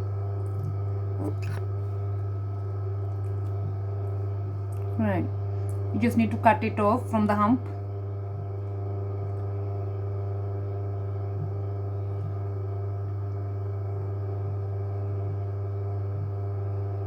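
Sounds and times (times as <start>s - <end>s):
pottery wheel motor humming: 0.0s - 17.0s.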